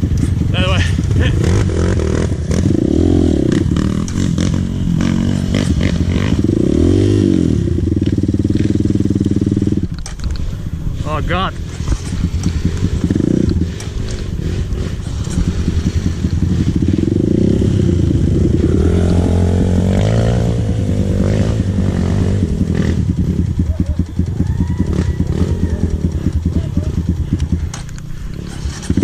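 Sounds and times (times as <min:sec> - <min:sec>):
dirt bike engine revving: 0:00.0 - 0:10.0, 0:10.6 - 0:29.0.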